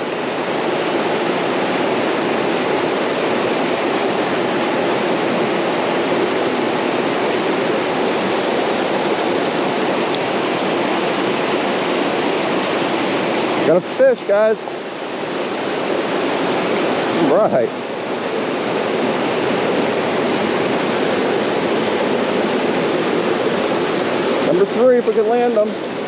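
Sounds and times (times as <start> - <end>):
creek water rushing over rocks: 0.0 - 26.0.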